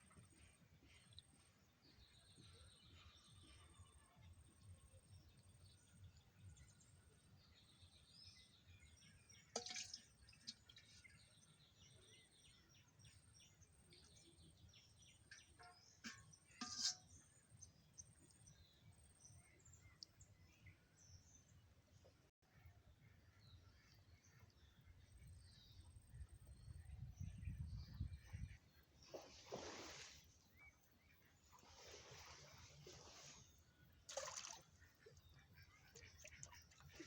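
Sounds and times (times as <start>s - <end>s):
faint outdoor ambience: 0.0s - 37.0s.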